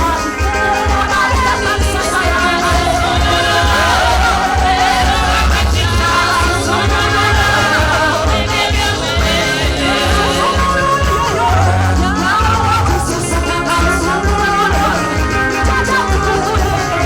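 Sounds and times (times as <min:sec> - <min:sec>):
group singing gospel music: 0:00.0 - 0:17.0.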